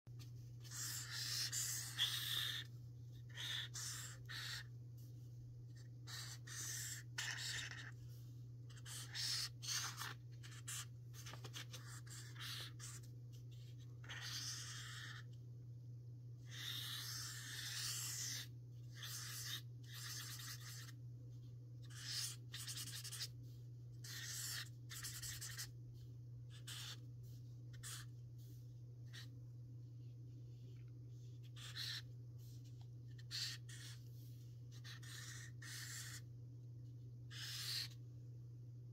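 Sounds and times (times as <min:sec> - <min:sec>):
steady low hum: 0:00.1 - 0:38.9
marker drawing on paper: 0:00.2 - 0:04.7, 0:05.7 - 0:08.1, 0:08.7 - 0:15.4, 0:16.4 - 0:21.0, 0:21.8 - 0:25.8, 0:26.5 - 0:29.3, 0:30.7 - 0:36.2, 0:37.3 - 0:38.0.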